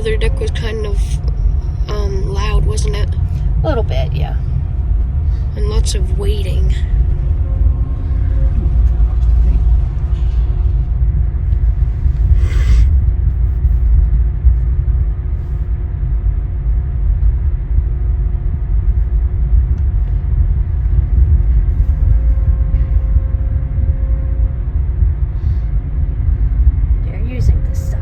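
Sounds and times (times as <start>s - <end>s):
ship engines rumbling: 0.0s - 17.0s, 17.6s - 28.0s
faint steady hum: 0.0s - 28.0s.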